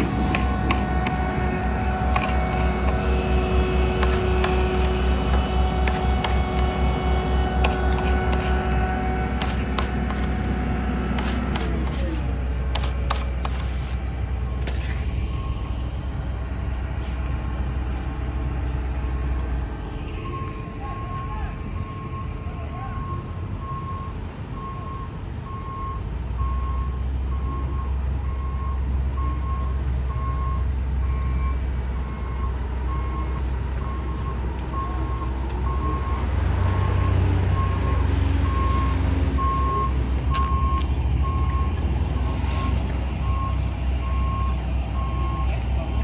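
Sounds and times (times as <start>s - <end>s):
reversing alarm beeping: 0.0s - 16.4s, 19.0s - 46.0s
diesel engines droning: 0.0s - 46.0s.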